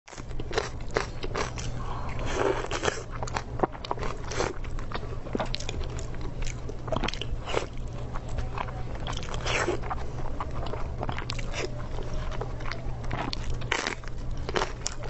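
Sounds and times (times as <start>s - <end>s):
crisp crunches of chewing: 0.1s - 15.0s
low steady hum: 0.1s - 15.0s.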